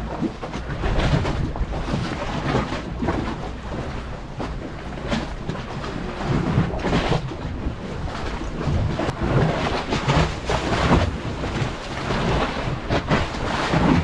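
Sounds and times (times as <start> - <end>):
choppy sea washing against concrete: 0.0 - 14.0
wind buffeting microphone: 0.0 - 14.0.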